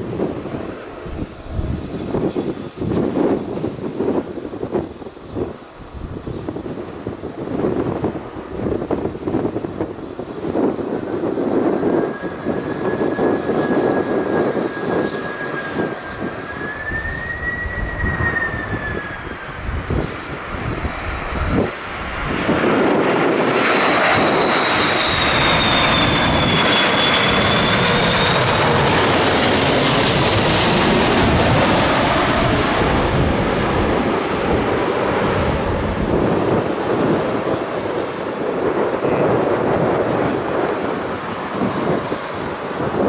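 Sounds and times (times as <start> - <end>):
jet engine roar: 0.0 - 43.0
jet engine whine: 0.0 - 43.0
wind buffeting microphone: 0.0 - 43.0.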